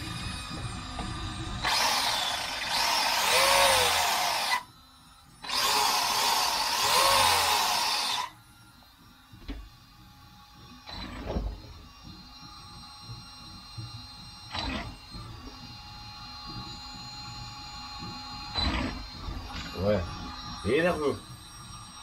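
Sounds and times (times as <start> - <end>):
electric motor whirring whine: 0.0 - 22.0.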